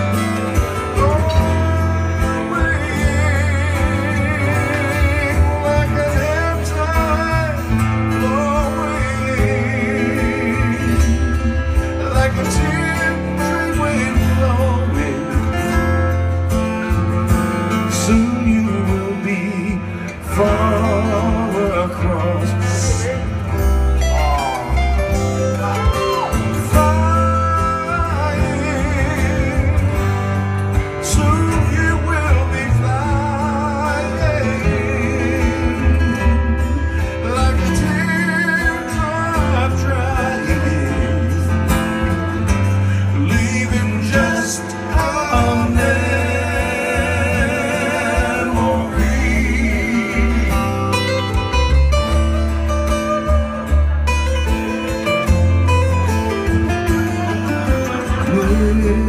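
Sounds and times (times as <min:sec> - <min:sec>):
man singing: 0:00.0 - 0:54.0, 0:55.3 - 0:59.0
acoustic guitars strumming: 0:00.0 - 0:59.0
bass line: 0:00.0 - 0:59.0.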